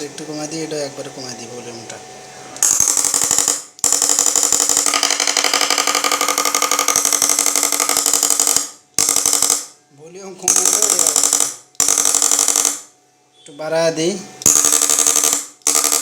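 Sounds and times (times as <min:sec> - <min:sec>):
harsh pulsing electric buzz: 0:00.0 - 0:09.8, 0:10.4 - 0:13.0, 0:13.8 - 0:16.0.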